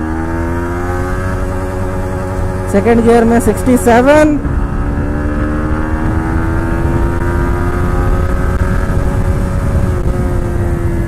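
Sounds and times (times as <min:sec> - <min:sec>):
motorcycle engine at full throttle: 0:00.0 - 0:11.0.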